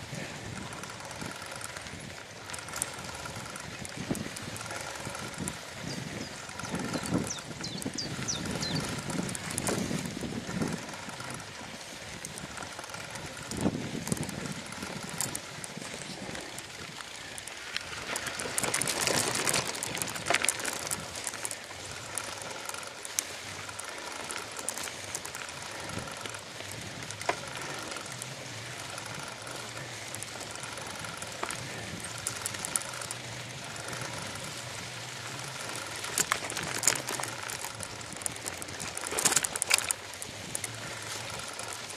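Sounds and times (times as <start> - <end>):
bicycle frame rattling over bumps: 0.0 - 41.9.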